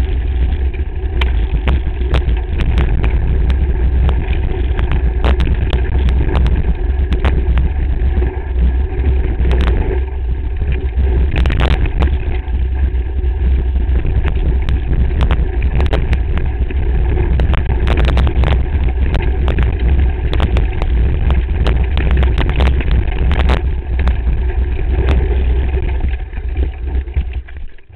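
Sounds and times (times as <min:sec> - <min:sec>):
wind and vibration rumble: 0:00.0 - 0:27.9.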